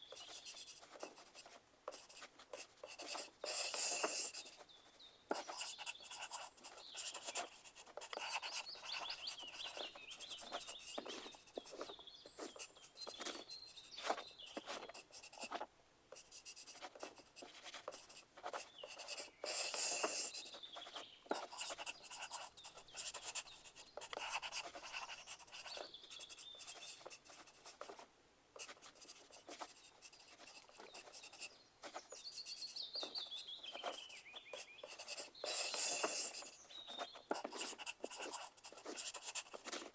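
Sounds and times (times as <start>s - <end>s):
pencils scratching on paper: 0.0s - 39.9s.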